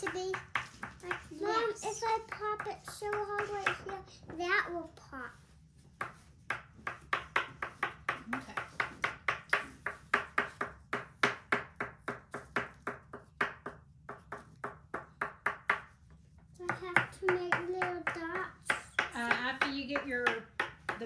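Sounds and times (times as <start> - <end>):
oil pastel tapping on paper: 0.0 - 4.1, 5.9 - 21.0.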